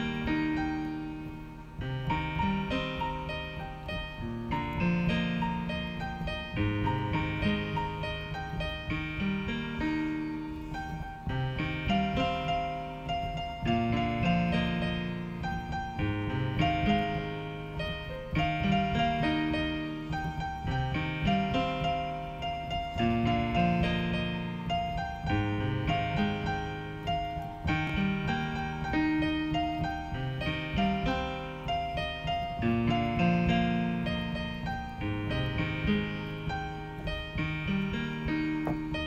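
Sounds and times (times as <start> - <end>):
slow piano chords: 0.0 - 39.0.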